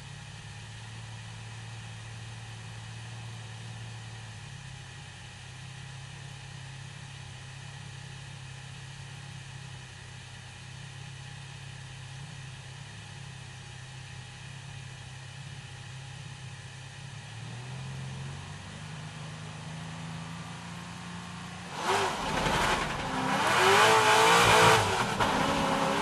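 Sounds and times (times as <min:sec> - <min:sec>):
car engine low drone: 0:00.0 - 0:26.0.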